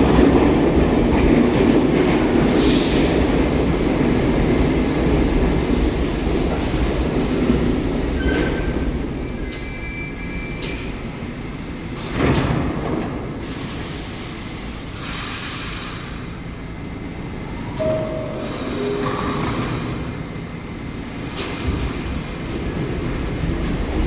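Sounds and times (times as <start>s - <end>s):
subway train rumbling on rails: 0.0s - 24.0s.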